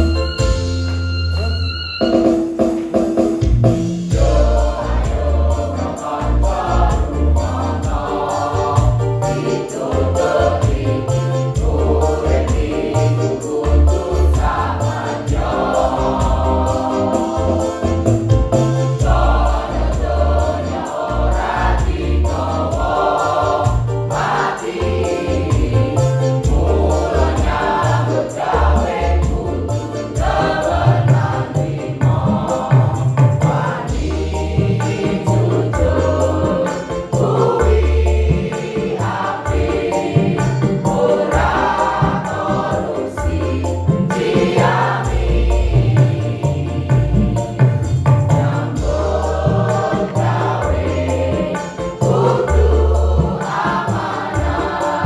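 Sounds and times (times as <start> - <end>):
mixed choir singing: 0.0 - 3.4, 4.0 - 55.0
accompaniment with bass and beat: 0.0 - 55.0.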